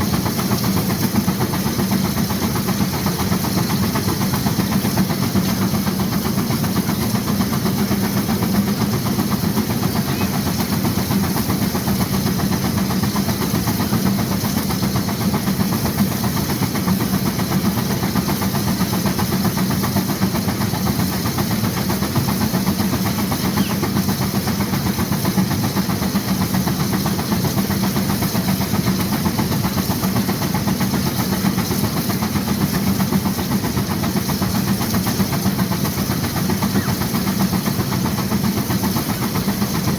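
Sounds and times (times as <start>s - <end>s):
steam engine exhaust beating: 0.0s - 39.9s
steam hissing: 0.0s - 39.9s.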